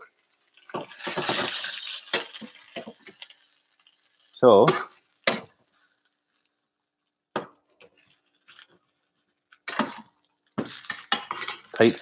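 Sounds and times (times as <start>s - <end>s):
metal utensil scraping frying pan: 0.2s - 6.5s, 7.8s - 11.8s.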